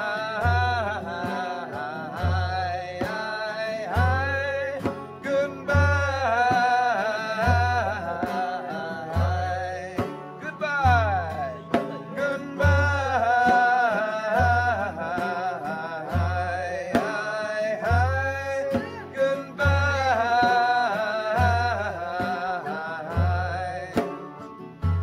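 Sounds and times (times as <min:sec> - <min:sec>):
acoustic guitar: 0:00.0 - 0:25.0
banjo: 0:00.0 - 0:25.0
deep drum beat: 0:00.0 - 0:25.0
high wordless melody: 0:00.0 - 0:25.0.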